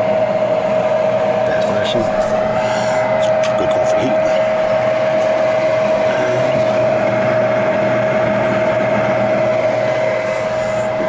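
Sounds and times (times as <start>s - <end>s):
furnace motor whining: 0.0s - 11.0s.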